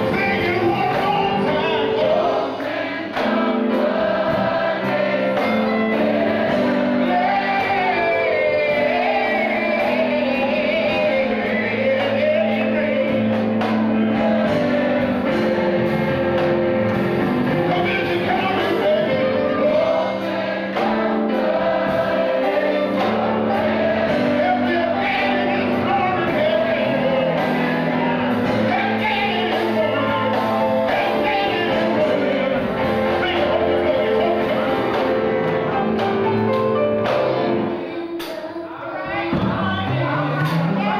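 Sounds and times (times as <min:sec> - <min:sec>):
gospel singing through microphone: 0:00.0 - 0:40.9
steady held chords: 0:00.0 - 0:40.9.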